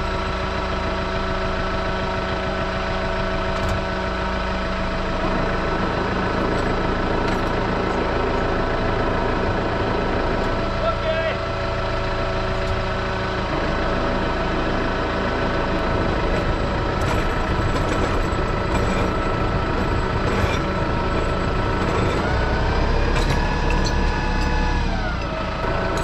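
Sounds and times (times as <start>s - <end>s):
tractor engine idling and revving: 0.0s - 26.0s.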